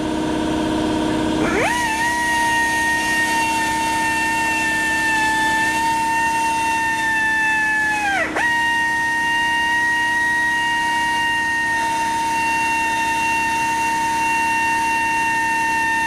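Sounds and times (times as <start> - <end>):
power drill whining: 1.4 - 16.0.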